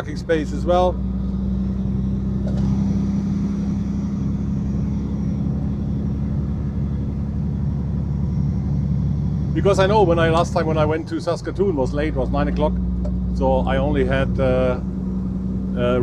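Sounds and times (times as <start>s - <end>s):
truck engine cruising: 0.0s - 16.0s
tyre and road noise: 0.0s - 16.0s.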